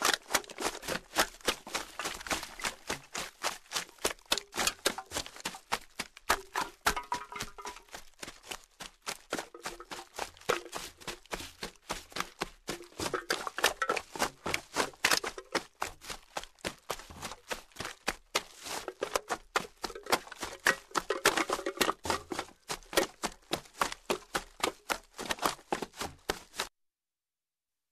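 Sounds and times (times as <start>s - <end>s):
footsteps crunching trash: 0.0s - 26.7s.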